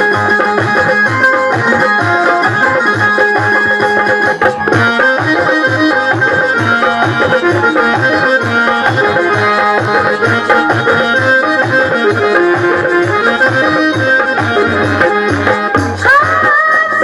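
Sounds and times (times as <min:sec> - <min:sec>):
hand drum beat: 0:00.0 - 0:17.0
keyboard melody: 0:00.0 - 0:17.0.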